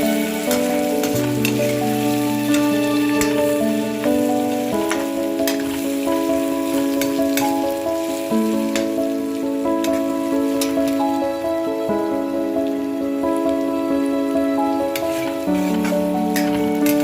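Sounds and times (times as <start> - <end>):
food sizzling in a pan: 0.0 - 11.5, 12.4 - 17.0
instrumental music: 0.0 - 17.0.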